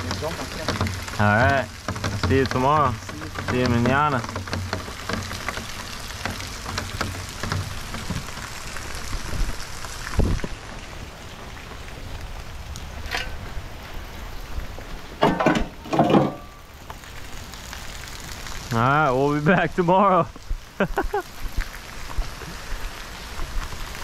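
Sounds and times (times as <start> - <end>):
rain pattering on hard surfaces: 0.0 - 24.0.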